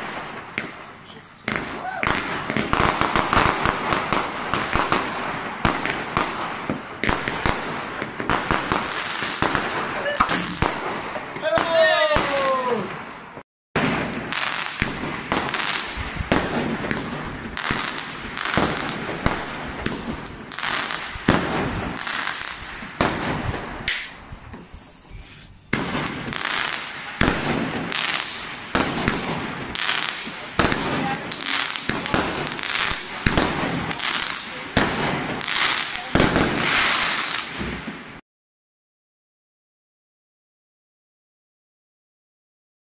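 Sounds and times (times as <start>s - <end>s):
fireworks bangs and crackling: 0.0s - 25.0s, 25.6s - 38.2s.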